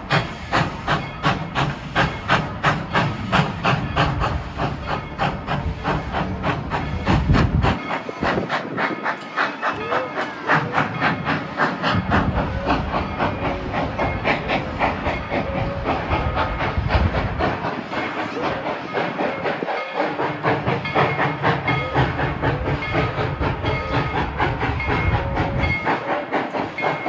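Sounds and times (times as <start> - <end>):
steam hissing: 0.0 - 27.0
steam locomotive exhaust beat: 0.0 - 27.0.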